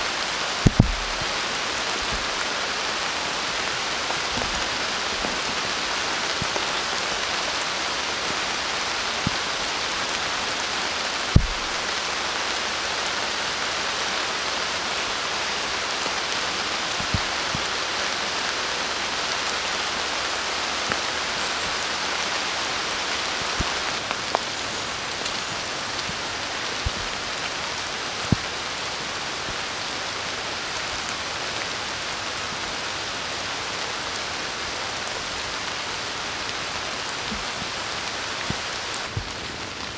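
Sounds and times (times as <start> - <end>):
rain on foliage: 0.0 - 39.9
sharp rain taps: 0.0 - 39.9.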